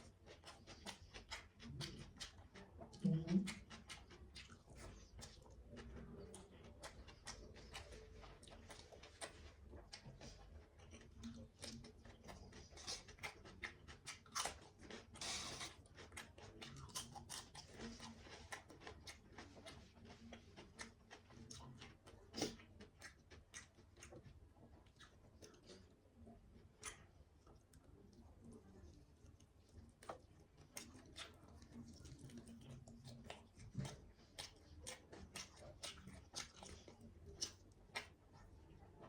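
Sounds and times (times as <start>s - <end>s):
person chewing: 0.0s - 38.5s.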